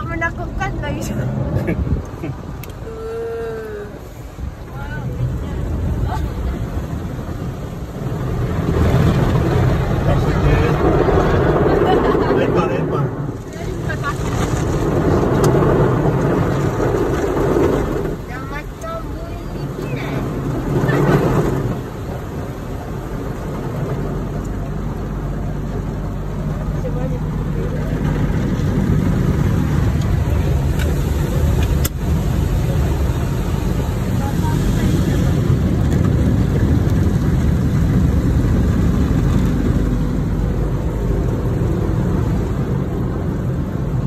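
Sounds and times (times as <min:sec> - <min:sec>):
car wash machinery running: 0:00.0 - 0:44.0
water spray beating on car: 0:00.1 - 0:44.0.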